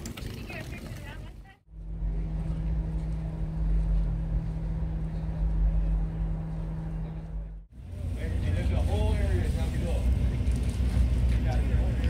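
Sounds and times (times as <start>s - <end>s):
motor humming: 1.7s - 12.0s.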